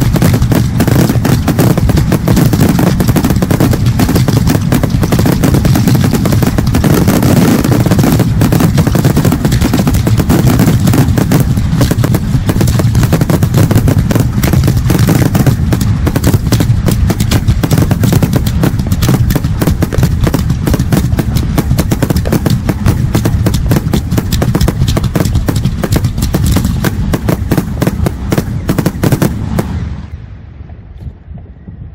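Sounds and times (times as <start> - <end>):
fireworks shells bursting: 0.0 - 30.1
continuous low rumble: 0.0 - 31.9.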